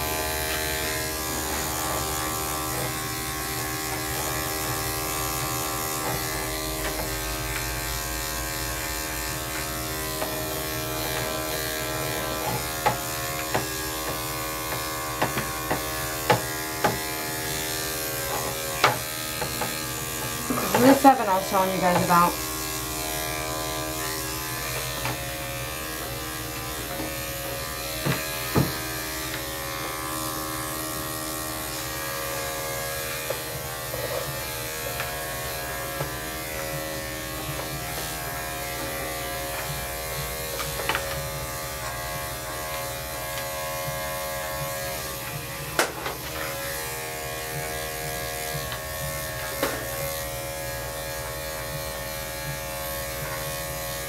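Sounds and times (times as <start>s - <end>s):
electric clipper buzzing: 0.0s - 54.0s.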